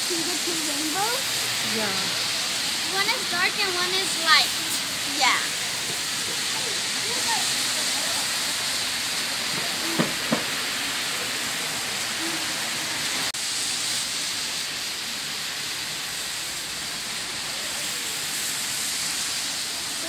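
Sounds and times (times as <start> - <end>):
rain on wet street: 0.0 - 20.0.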